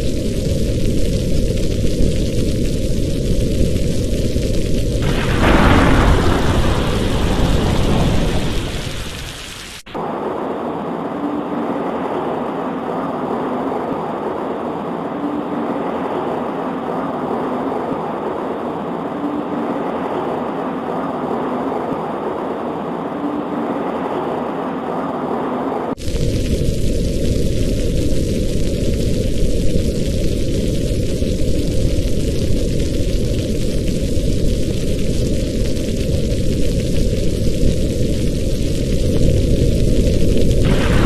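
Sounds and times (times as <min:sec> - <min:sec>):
thunder rolling: 0:00.0 - 0:36.1, 0:36.8 - 0:41.0
rain falling: 0:00.0 - 0:41.0.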